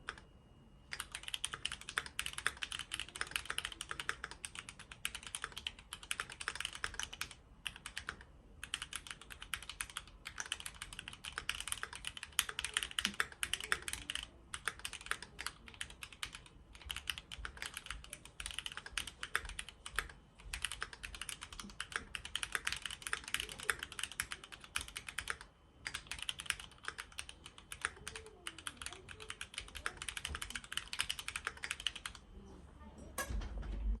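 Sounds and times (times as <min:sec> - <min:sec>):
mechanical keyboard typing: 0:00.0 - 0:00.2, 0:00.9 - 0:32.2.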